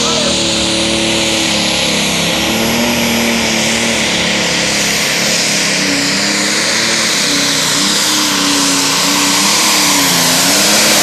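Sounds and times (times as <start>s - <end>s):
high turbo hiss: 0.0s - 11.0s
tractor diesel engine at full throttle: 0.0s - 11.0s.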